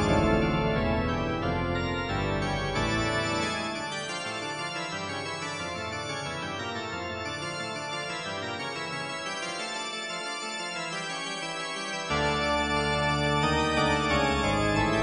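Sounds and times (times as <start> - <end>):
sustained organ chords: 0.0 - 9.7, 10.4 - 15.0.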